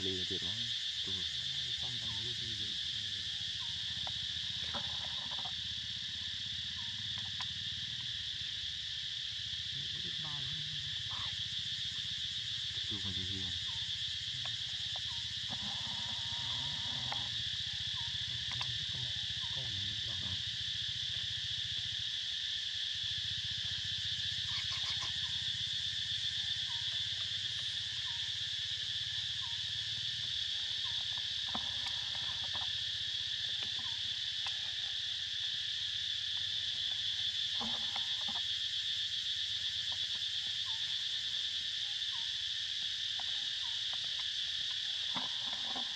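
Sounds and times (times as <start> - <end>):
high-pitched insect chorus: 0.0 - 45.9.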